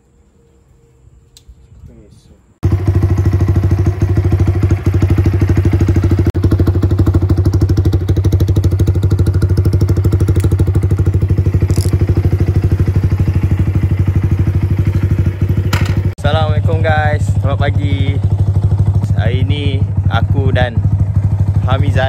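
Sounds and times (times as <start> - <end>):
motorcycle engine idling: 2.6 - 22.0.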